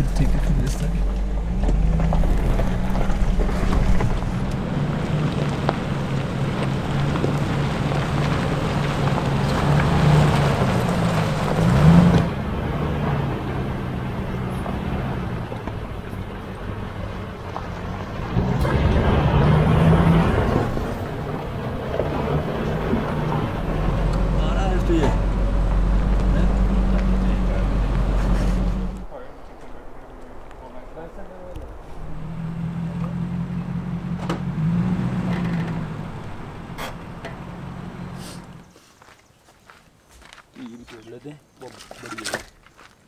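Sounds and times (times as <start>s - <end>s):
suv engine at low revs: 0.0s - 38.7s
tyres crunching over rocks: 0.0s - 43.0s.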